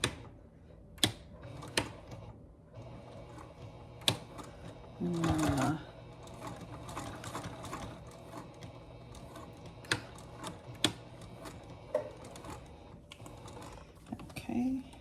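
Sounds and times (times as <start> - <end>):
sewing machine stitching: 1.0 - 15.0.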